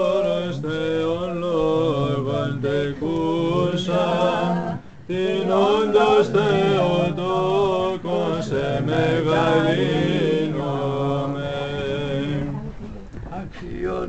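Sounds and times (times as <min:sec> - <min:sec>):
voices chanting: 0:00.0 - 0:12.8.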